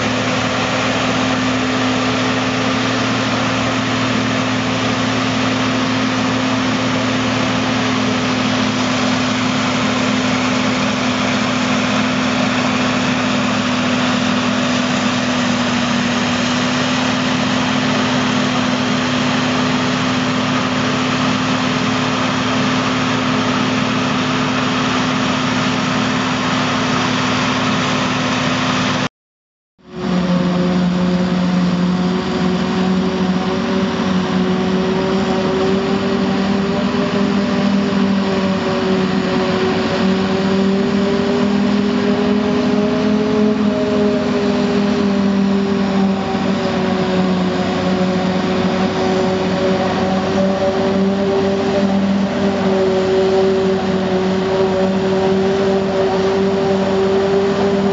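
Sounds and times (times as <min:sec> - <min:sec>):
forage harvester engine drone: 0:00.0 - 0:29.1, 0:29.8 - 0:57.9
steady hum: 0:00.0 - 0:29.1, 0:29.9 - 0:57.9.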